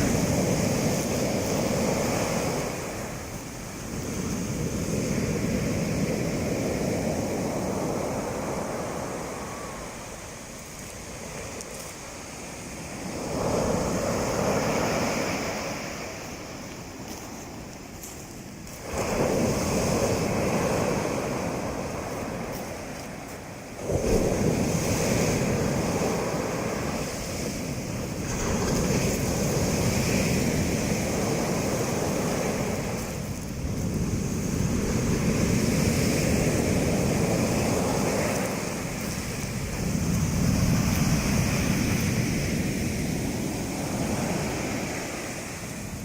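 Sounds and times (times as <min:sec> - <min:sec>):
waves breaking on pebble beach: 0:00.0 - 0:46.0.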